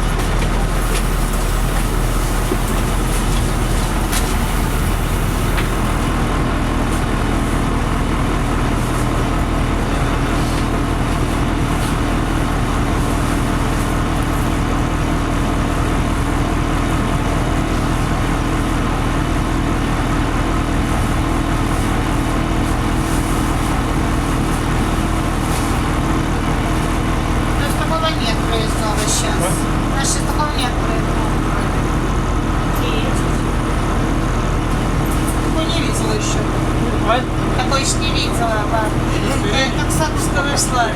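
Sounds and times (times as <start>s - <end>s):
bus engine hum: 0.0s - 40.9s.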